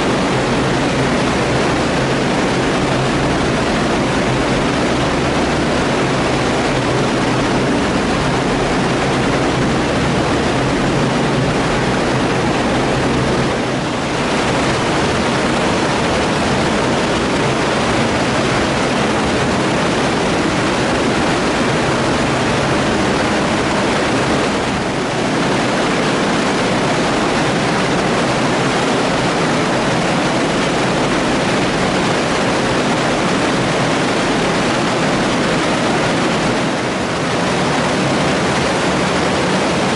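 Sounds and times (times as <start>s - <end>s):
water rushing in channel: 0.0s - 39.9s.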